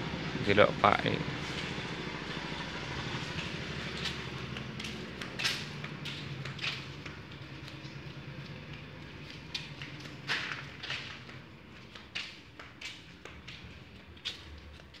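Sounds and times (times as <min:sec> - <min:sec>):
low engine hum: 0:00.0 - 0:15.0
footsteps on concrete floor: 0:01.4 - 0:15.0.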